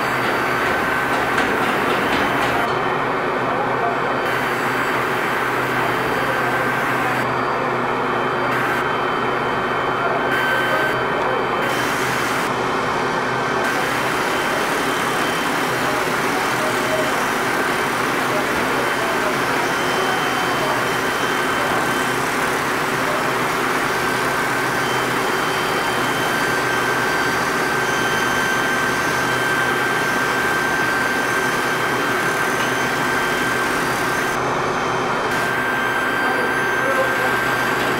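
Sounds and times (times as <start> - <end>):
foundry machinery roar: 0.0 - 37.9.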